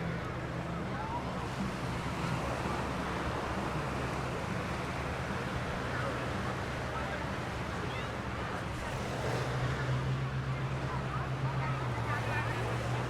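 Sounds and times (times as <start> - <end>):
constant wash of noise: 0.0 - 13.0
faint distant voices: 0.1 - 13.0.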